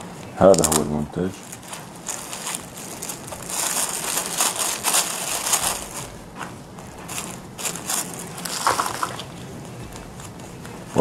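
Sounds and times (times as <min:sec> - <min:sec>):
plastic packaging crinkling: 0:00.4 - 0:11.0.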